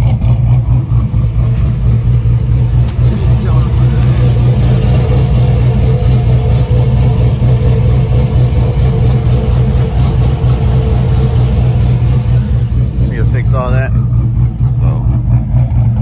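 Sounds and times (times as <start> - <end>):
car exhaust idling rumble: 0.0 - 16.0.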